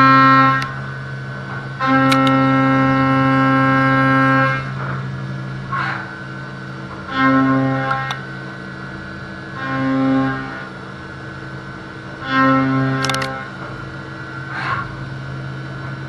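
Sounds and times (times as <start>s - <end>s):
end mill cutting metal whine: 0.0s - 16.0s.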